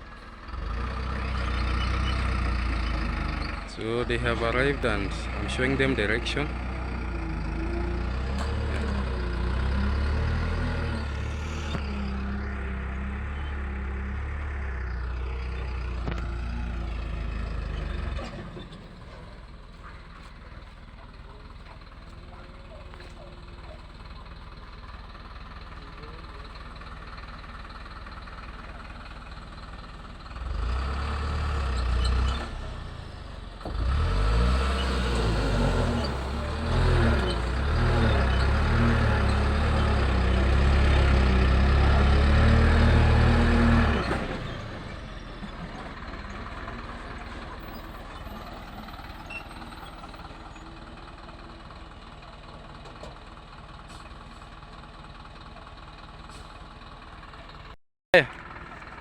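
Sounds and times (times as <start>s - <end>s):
truck engine revving: 0.0s - 52.1s.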